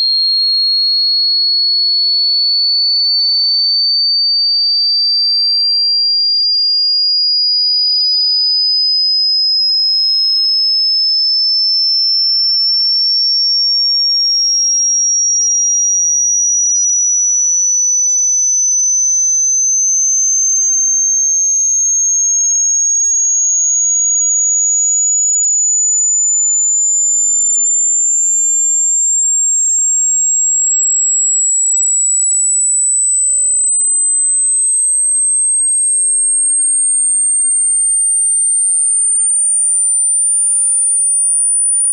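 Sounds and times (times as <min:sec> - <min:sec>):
rising sine tone: 0:00.0 - 0:04.7, 0:11.8 - 0:41.9.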